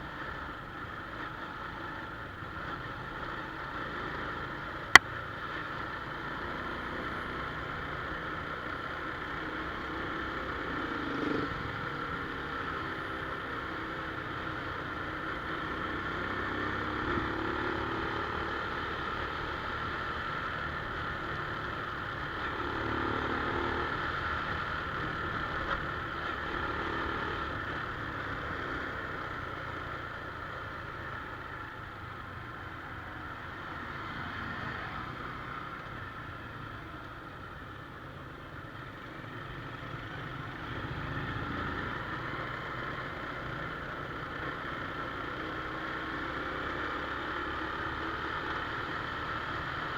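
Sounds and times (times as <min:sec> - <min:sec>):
motorcycle engine running: 0:00.0 - 0:49.9
road and wind noise: 0:00.0 - 0:49.9.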